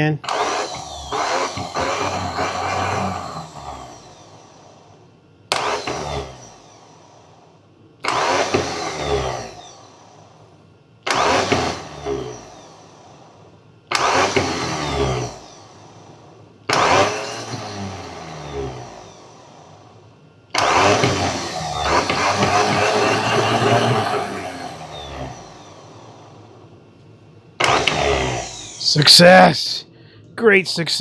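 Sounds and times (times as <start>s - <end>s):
electric starter motor spinning: 0.2s - 20.0s, 20.6s - 29.3s.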